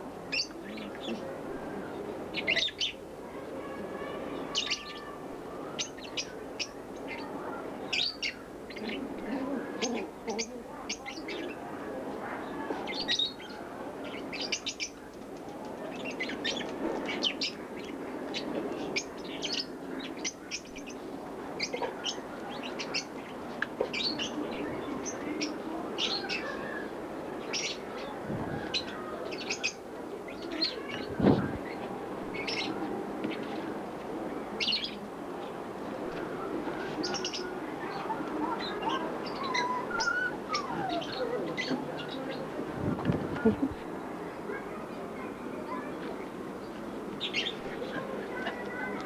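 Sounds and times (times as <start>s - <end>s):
small birds chirping: 0.3s - 3.0s, 3.6s - 11.7s, 12.4s - 33.7s, 34.6s - 49.0s.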